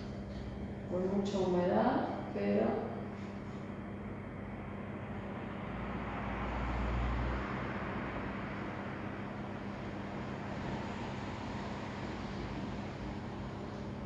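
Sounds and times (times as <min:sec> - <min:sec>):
constant low hum: 0:00.0 - 0:14.0.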